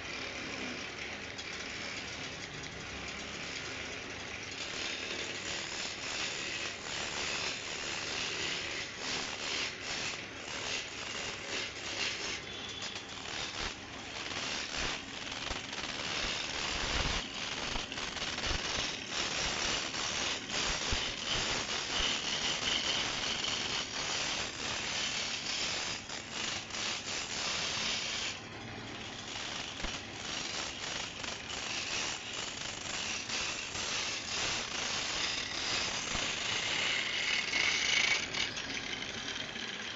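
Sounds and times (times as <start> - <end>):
wood lathe turning tool scraping: 0.0 - 39.9.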